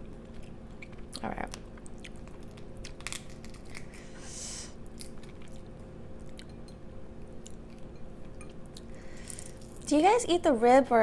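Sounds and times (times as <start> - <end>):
chewing shellfish: 0.0 - 4.2, 4.8 - 9.9
steady low hum: 0.0 - 11.0.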